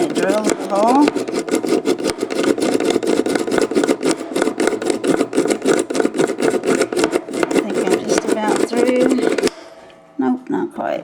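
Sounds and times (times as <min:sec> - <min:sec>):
push drill rasping chatter: 0:00.0 - 0:09.5.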